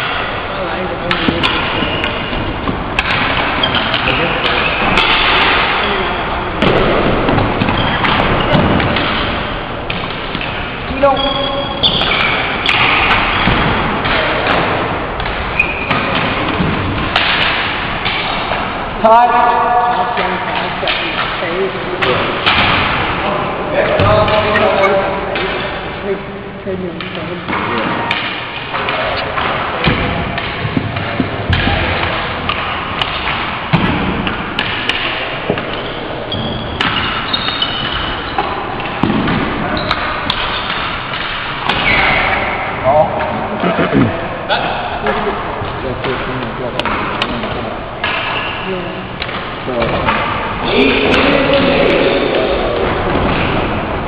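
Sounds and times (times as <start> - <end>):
hockey sticks and ball clacking: 0.0 - 19.1, 20.0 - 25.9, 26.9 - 54.0
echoing hall noise: 0.0 - 54.0.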